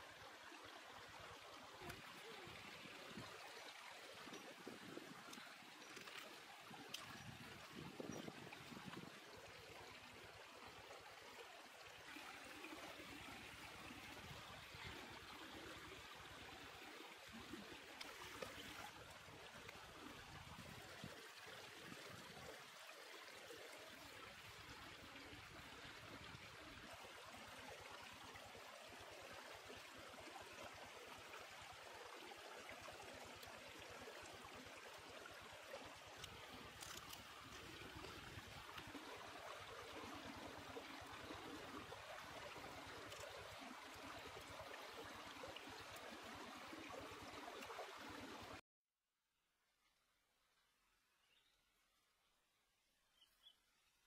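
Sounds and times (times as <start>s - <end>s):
stream running over rocks: 0.0s - 48.6s.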